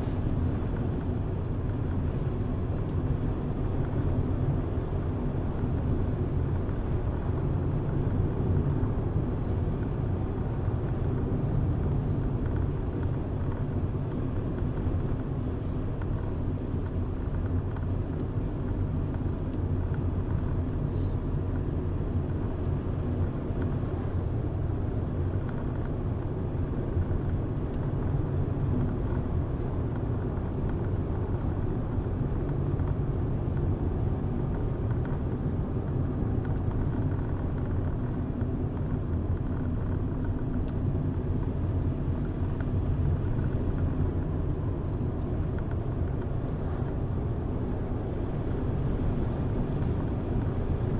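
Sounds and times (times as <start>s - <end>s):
car engine and tyres rumbling: 0.0s - 50.9s.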